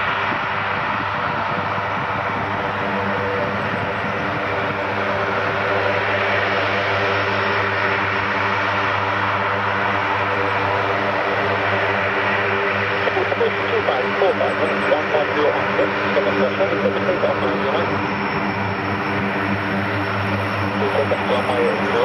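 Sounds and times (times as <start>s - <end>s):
propeller hum: 0.0s - 22.0s
turbine rush: 0.0s - 22.0s.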